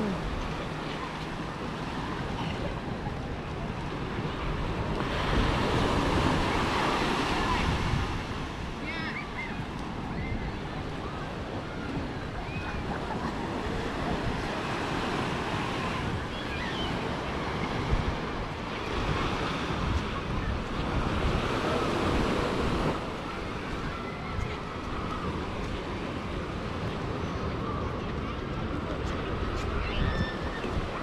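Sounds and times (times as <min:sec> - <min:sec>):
surf washing onto sand: 0:00.0 - 0:27.2
wind rumbling on microphone: 0:00.0 - 0:31.0.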